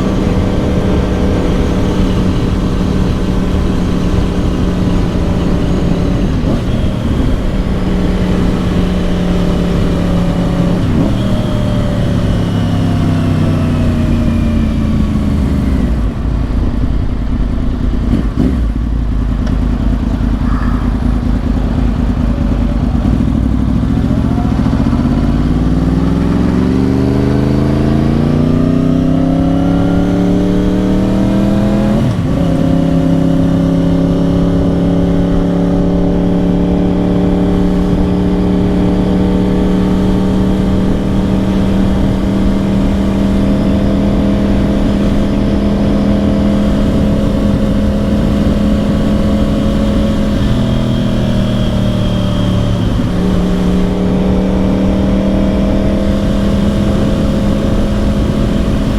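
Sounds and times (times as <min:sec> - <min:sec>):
motorcycle engine revving under way: 0:00.0 - 0:58.9.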